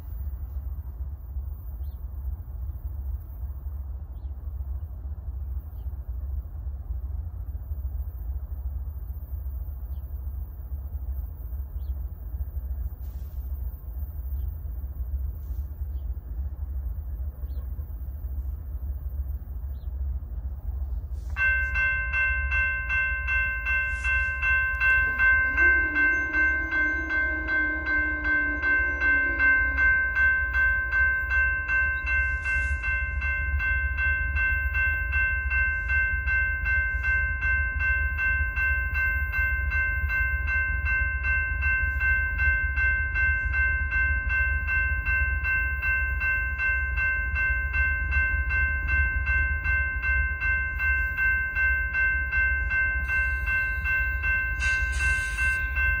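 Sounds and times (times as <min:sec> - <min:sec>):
low hum: 0:00.0 - 0:56.0
railroad crossing bell ringing: 0:00.0 - 0:56.0.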